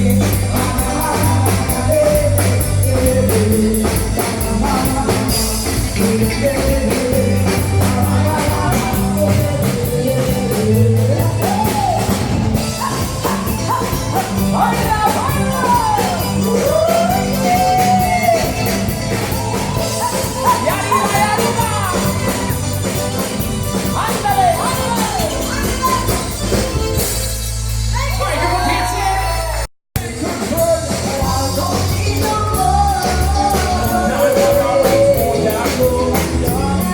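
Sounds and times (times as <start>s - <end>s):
person singing: 0.0s - 26.4s, 28.2s - 36.9s
rock music: 0.0s - 36.9s.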